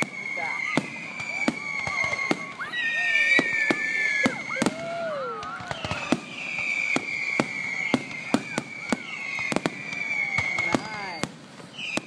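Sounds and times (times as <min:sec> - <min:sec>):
fireworks bangs: 0:00.0 - 0:12.0
whistling firework shells: 0:00.0 - 0:12.0.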